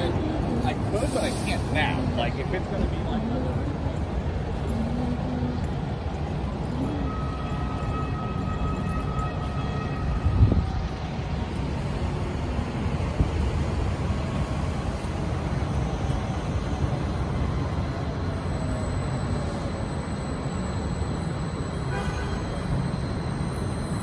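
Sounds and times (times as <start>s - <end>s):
city street traffic rumble: 0.0s - 24.0s.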